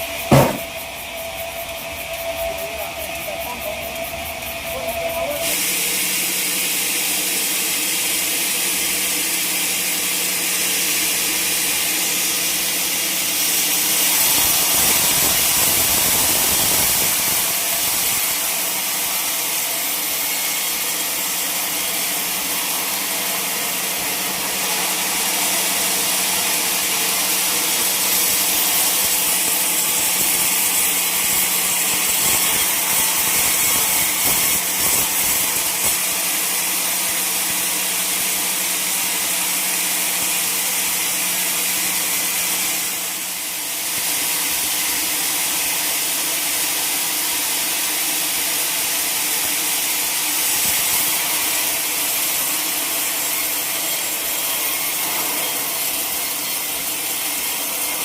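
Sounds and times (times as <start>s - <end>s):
sawmill saw cutting log: 0.0s - 58.0s.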